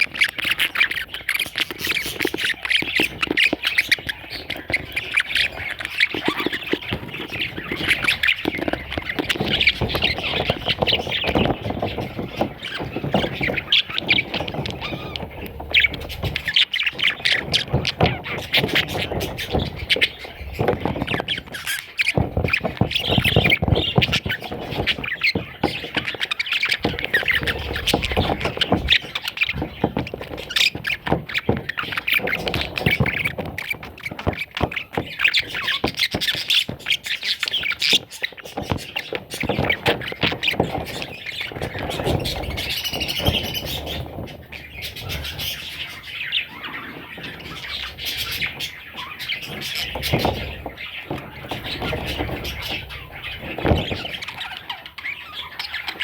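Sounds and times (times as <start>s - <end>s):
baby parrots squawking and chirping: 0.0s - 56.0s
small clicks and rustles: 0.0s - 56.0s.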